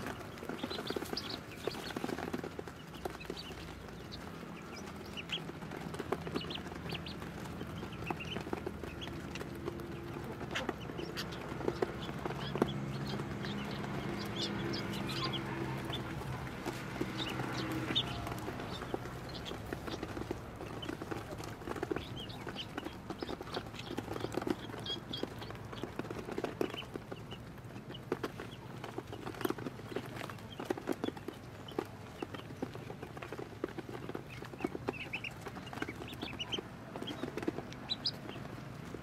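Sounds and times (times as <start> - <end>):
ducklings peeping: 0.0 - 39.0.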